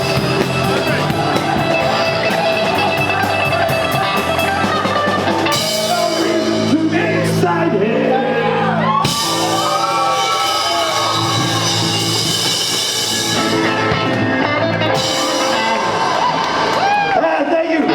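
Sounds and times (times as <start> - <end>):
rock band jamming: 0.0 - 7.8, 8.7 - 17.9
electric lead guitar: 0.0 - 17.9.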